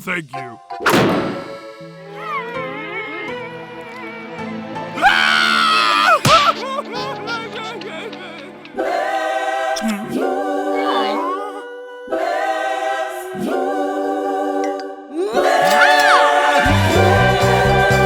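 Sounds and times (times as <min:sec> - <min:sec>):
choir singing a cappella: 0:01.0 - 0:05.0, 0:06.3 - 0:18.0.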